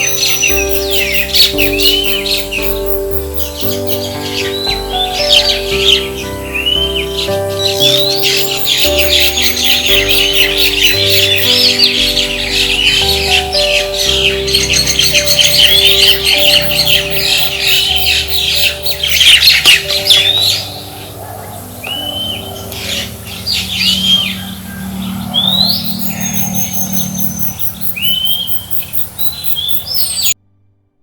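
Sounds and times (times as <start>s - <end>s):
birds calling: 0.0s - 30.4s.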